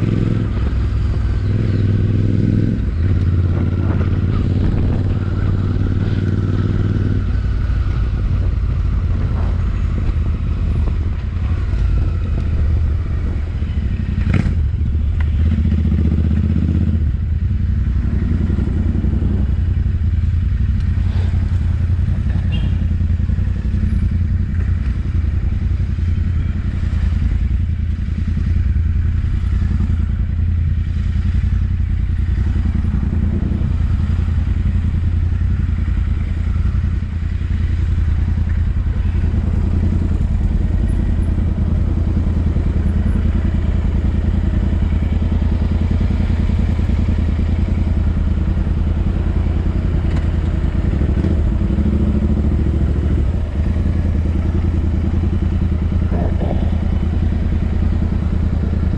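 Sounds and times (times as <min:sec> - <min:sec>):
motorcycle engine running loud: 0:00.0 - 0:58.9.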